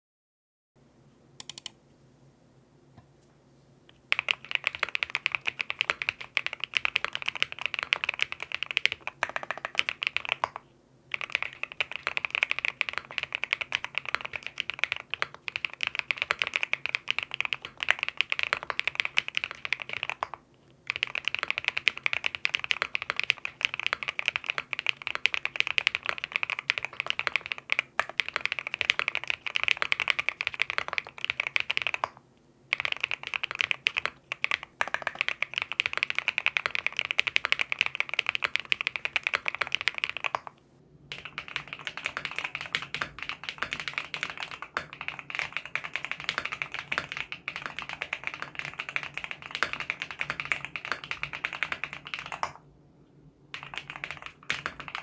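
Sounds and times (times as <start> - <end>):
fast mechanical keyboard typing: 4.1 - 40.5, 41.1 - 52.6, 53.5 - 55.0.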